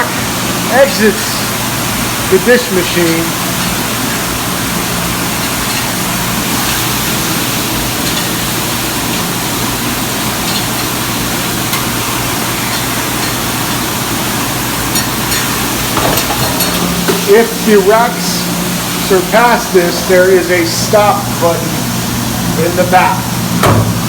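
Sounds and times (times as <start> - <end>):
dishwasher water spray: 0.0 - 24.0
pump motor hum: 0.0 - 24.0.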